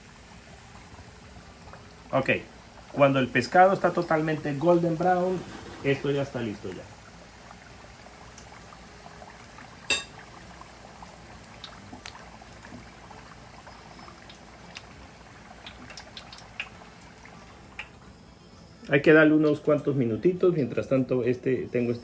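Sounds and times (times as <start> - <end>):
oil popping and crackling: 0.0 - 18.0
fish deep-frying in bubbling oil: 0.0 - 22.0.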